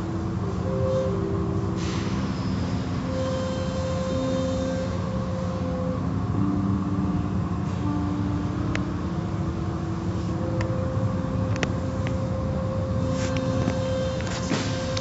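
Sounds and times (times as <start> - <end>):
car wash motors rumbling: 0.0 - 15.0.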